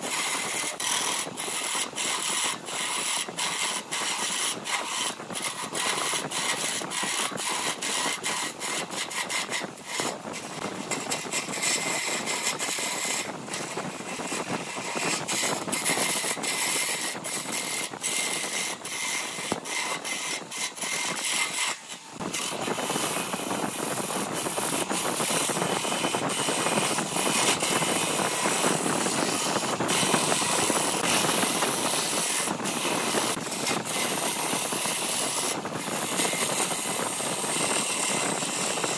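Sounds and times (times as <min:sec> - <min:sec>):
wood lathe gouge scraping: 0:00.0 - 0:38.9.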